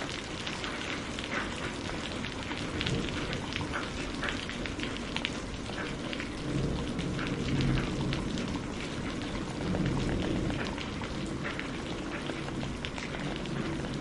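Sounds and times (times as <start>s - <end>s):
steady rain: 0.0s - 14.0s
wood fire crackling and popping: 0.0s - 14.0s.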